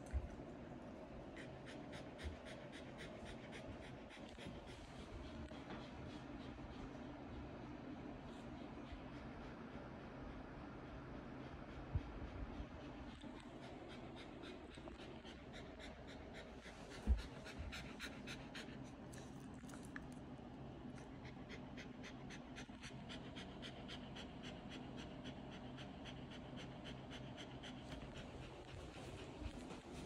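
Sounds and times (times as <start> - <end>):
dog panting hard: 1.1 - 20.0, 20.8 - 30.0.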